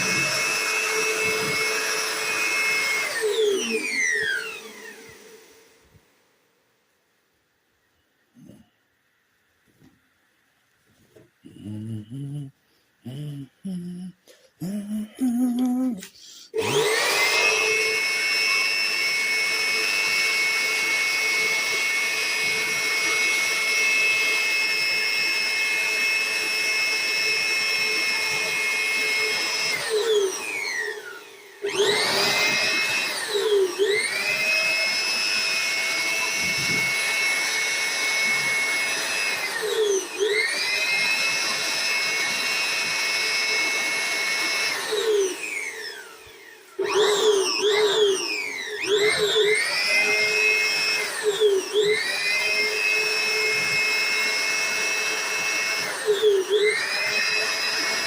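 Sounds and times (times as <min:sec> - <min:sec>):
leaf blower whine: 0:00.0 - 0:06.1, 0:08.4 - 0:08.7, 0:11.4 - 0:58.0.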